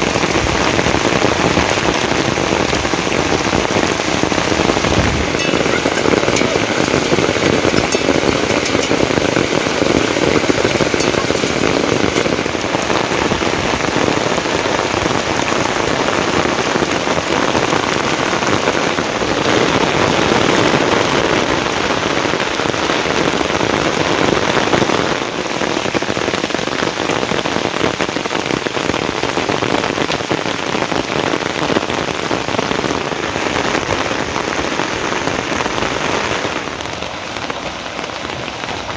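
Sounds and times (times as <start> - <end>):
heavy rain patter: 0.0 - 38.9.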